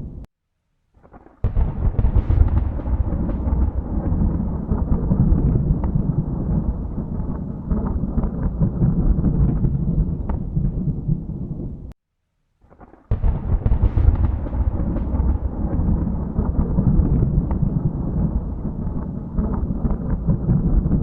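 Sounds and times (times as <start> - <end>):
thunderclap with sharp crackle: 1.0 - 12.0, 12.6 - 21.0
thunder rumbling: 1.1 - 12.0, 12.8 - 21.0.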